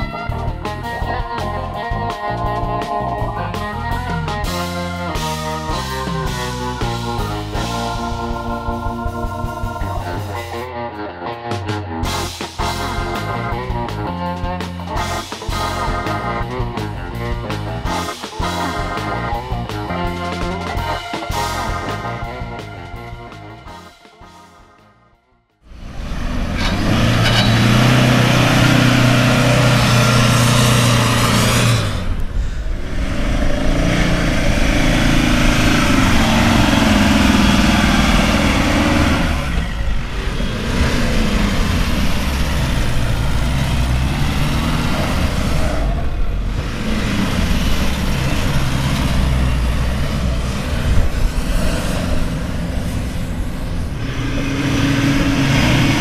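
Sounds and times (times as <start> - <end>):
pickup truck engines revving: 0.0 - 10.6, 11.5 - 24.4, 25.7 - 56.0.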